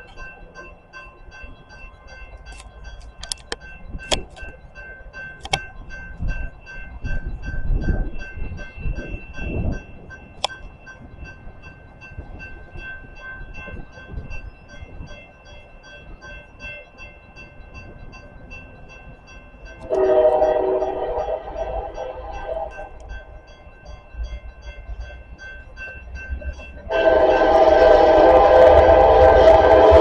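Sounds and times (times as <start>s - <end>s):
steady high ringing: 0.0s - 30.0s
train rumble: 0.0s - 30.0s.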